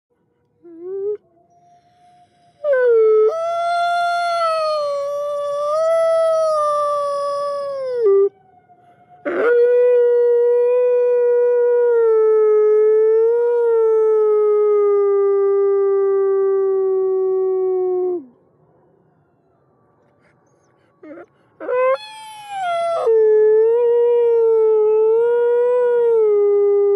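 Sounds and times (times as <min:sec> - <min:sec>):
wolf howling: 0:00.7 - 0:18.3, 0:21.0 - 0:26.9.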